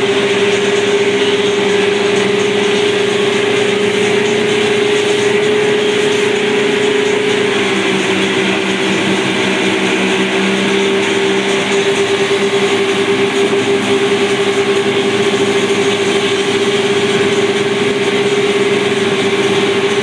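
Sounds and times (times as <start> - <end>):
speedboat engine humming: 0.0 - 20.0
wake rushing: 0.0 - 20.0
wind: 0.0 - 20.0.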